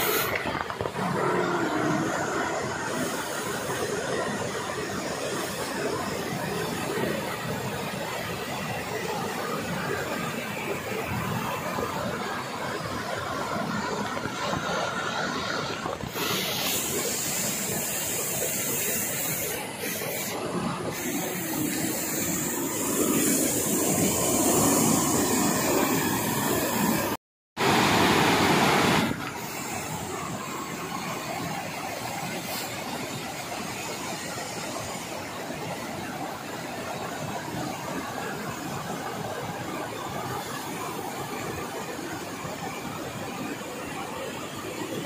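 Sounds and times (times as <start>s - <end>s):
river water rushing over rocks: 0.0s - 45.0s.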